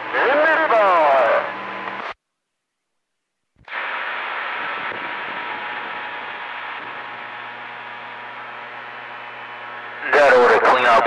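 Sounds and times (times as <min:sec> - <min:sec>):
radio static hiss with hum: 0:00.0 - 0:11.0.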